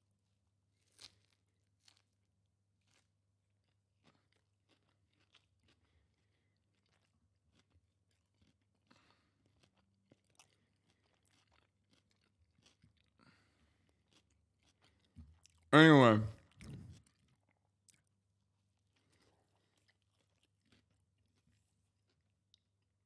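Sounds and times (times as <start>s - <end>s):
person chewing crunchy snack: 0.7s - 15.7s, 16.4s - 22.6s.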